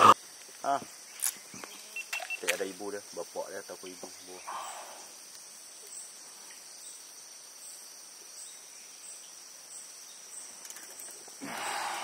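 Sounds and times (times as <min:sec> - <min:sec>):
insects chirring: 0:00.0 - 0:12.0
pulsing insect call: 0:00.0 - 0:12.0.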